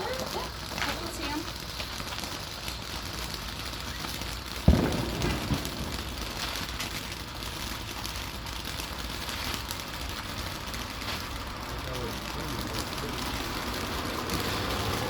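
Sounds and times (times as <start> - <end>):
firework fountains hissing: 0.0 - 15.0.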